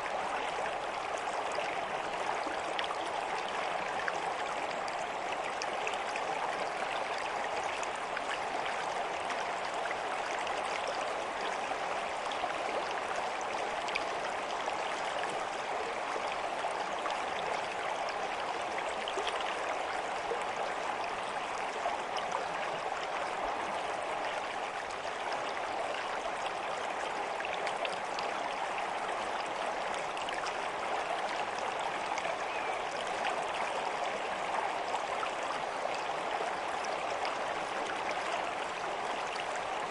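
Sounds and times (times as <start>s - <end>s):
stream flowing and bubbling: 0.0s - 39.9s.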